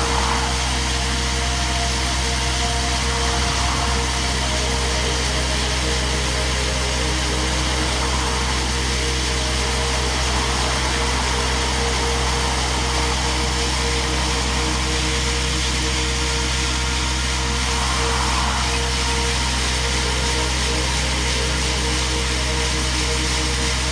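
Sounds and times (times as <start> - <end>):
passing traffic: 0.0 - 22.2
diesel engine running: 0.0 - 23.9.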